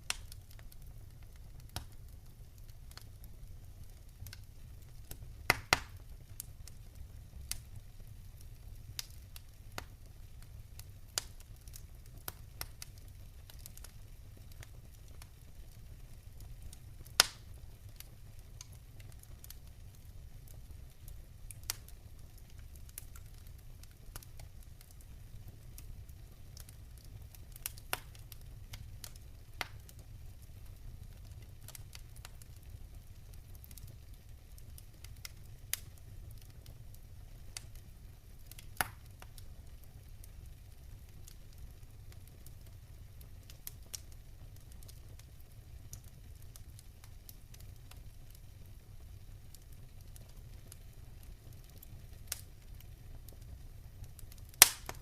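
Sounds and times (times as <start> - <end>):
fire crackling and popping: 0.0 - 55.0
low fire rumble: 0.0 - 55.0.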